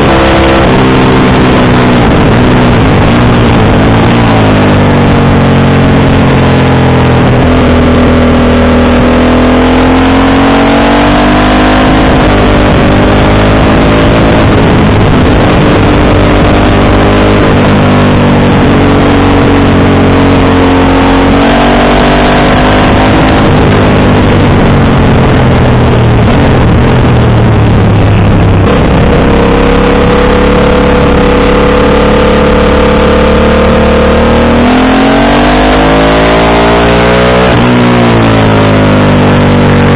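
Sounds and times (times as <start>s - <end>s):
motorcycle engine revving: 0.0s - 39.9s
steady rushing noise: 0.0s - 39.9s.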